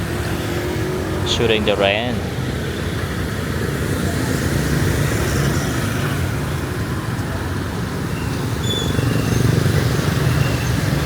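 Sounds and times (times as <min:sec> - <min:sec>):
road noise: 0:00.0 - 0:11.0
vehicle engines rumbling: 0:00.0 - 0:11.0.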